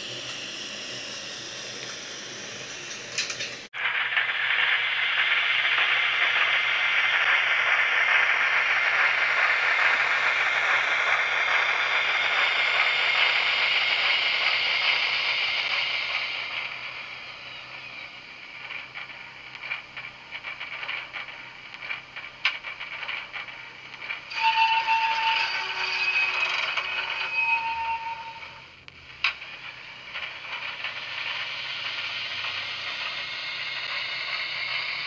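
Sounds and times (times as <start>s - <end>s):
model railcar running on track: 0.0s - 35.0s.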